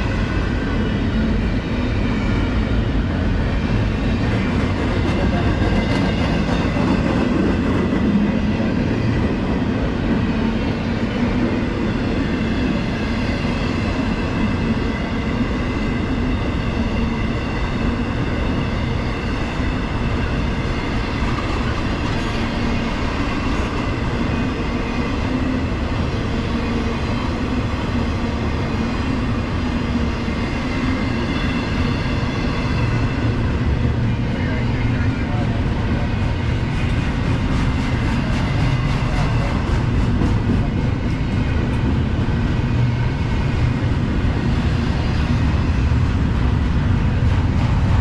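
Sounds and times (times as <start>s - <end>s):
freight train rolling past: 0.0s - 48.0s
steel wheels on rails: 0.0s - 48.0s.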